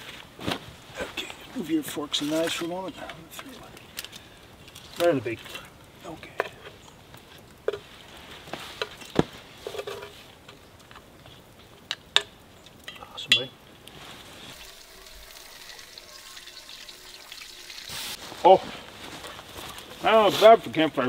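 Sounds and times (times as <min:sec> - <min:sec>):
soft steady hiss: 0:00.0 - 0:21.0.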